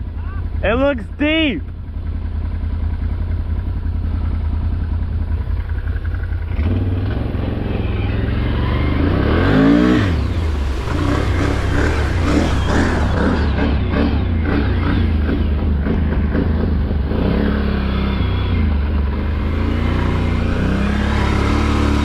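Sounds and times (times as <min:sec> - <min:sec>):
vehicle engine running: 0:00.0 - 0:22.0
engine rev: 0:02.3 - 0:22.0.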